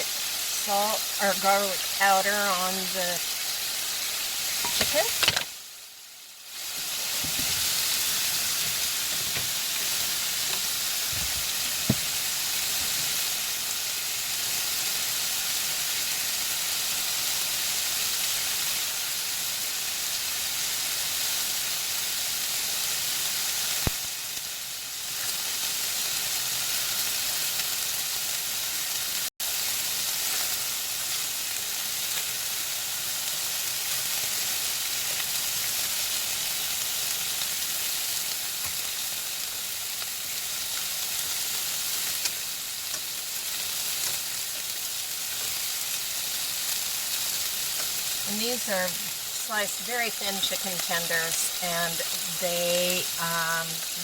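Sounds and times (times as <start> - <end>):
chicken frying in butter: 0.0 - 54.0.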